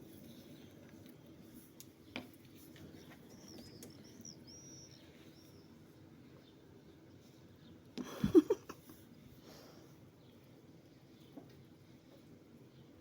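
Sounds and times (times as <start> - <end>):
faint bird chirping: 0.0 - 13.0
low room hum: 0.0 - 13.0.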